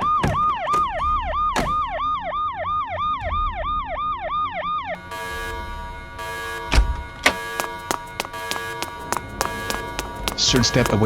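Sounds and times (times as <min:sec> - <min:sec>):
electronic alarm siren sweeping: 0:00.0 - 0:11.0.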